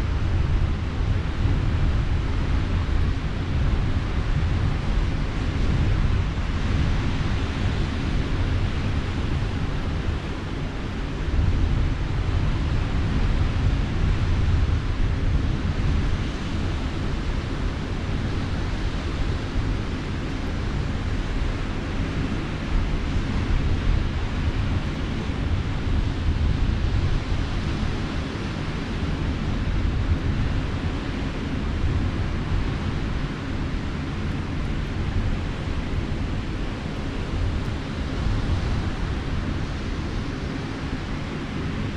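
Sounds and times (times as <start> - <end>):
wind rumbling on microphone: 0.0 - 41.9.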